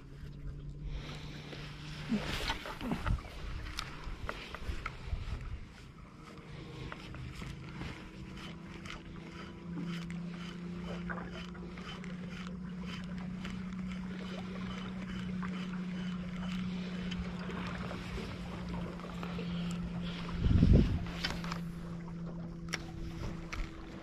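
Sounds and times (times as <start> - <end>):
boat motor humming: 0.0 - 24.0
water lapping against hull: 0.0 - 24.0.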